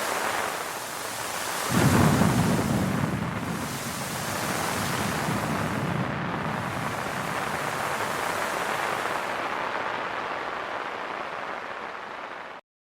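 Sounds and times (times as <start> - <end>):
heavy rain on hard surface: 0.0 - 12.6.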